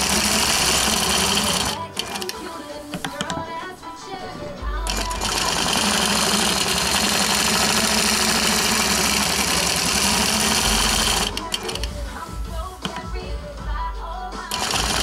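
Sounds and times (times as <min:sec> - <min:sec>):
quilting machine stitching: 0:00.0 - 0:03.6, 0:04.2 - 0:13.2, 0:14.5 - 0:15.0.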